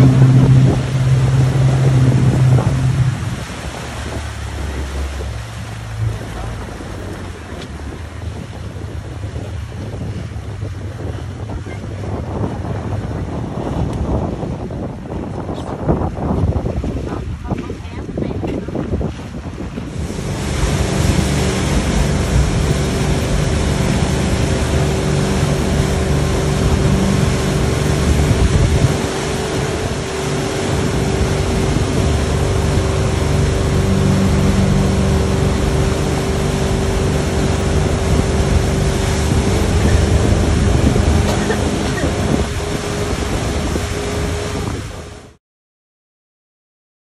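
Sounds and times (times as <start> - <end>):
wind buffeting microphone: 0.0 - 45.3
motorboat engine humming: 0.0 - 45.4
rushing water from wake: 0.0 - 45.4.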